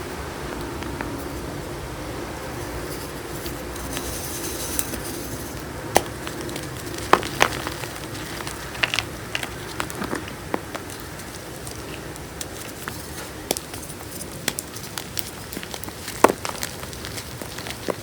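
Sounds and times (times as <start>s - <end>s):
chalk chunks crunching: 2.4s - 18.0s.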